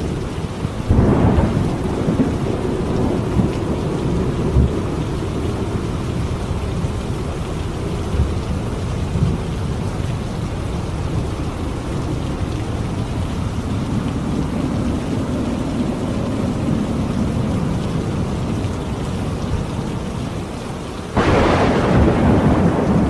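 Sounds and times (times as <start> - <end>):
low rolling thunder: 0.0 - 19.9, 21.1 - 23.0
heavy rain: 0.0 - 23.0.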